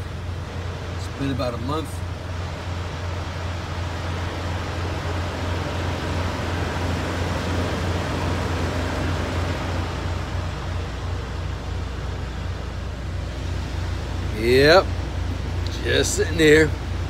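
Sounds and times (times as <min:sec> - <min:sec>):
diesel truck engine idling: 0:00.0 - 0:17.0
fan-like hiss: 0:00.0 - 0:17.0.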